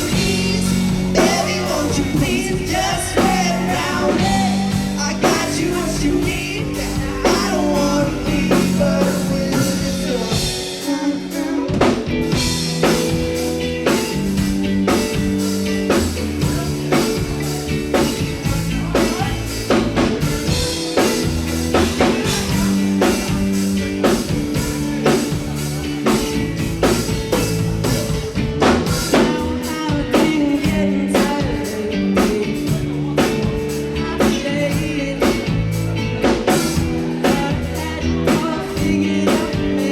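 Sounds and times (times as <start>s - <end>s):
person singing: 0.0s - 15.2s, 15.9s - 39.9s
drum kit: 0.0s - 39.9s
guitar: 0.0s - 39.9s.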